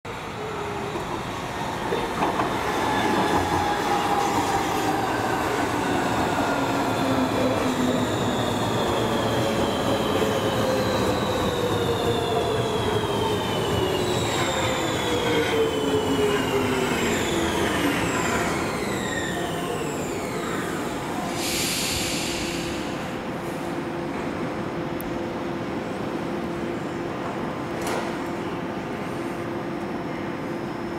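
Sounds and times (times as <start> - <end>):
metro train motors whining: 0.2 - 27.7.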